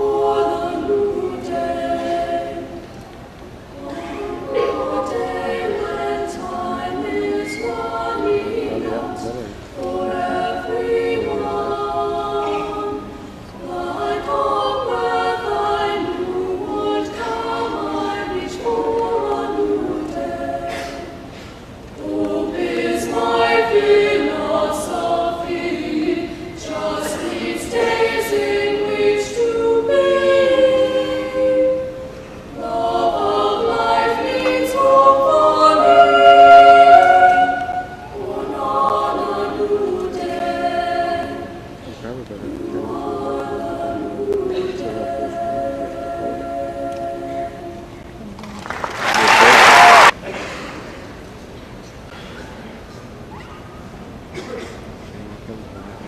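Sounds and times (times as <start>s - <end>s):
women singing in harmony: 0.0s - 3.0s, 3.8s - 21.4s, 22.0s - 41.9s, 42.6s - 48.2s.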